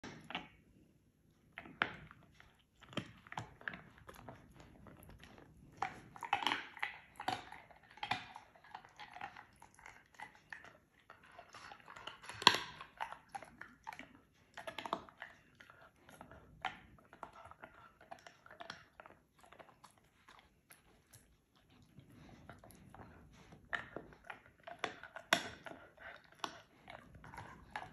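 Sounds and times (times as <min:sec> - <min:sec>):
dog crunching a bone: 0:00.0 - 0:27.9.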